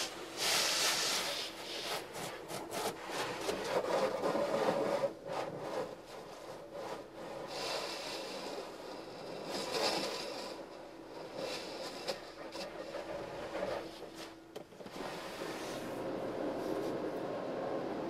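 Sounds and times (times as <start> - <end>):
cloth brushes slapping car: 0.0 - 18.0.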